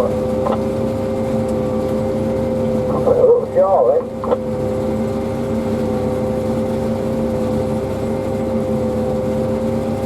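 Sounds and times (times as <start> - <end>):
harvester engine droning: 0.0 - 10.0.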